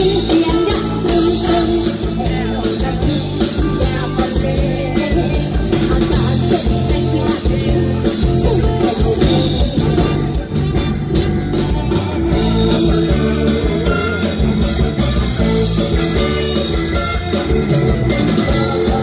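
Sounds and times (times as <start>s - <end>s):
drum kit: 0.0s - 19.0s
electric guitars: 0.0s - 19.0s
keyboard: 0.0s - 19.0s.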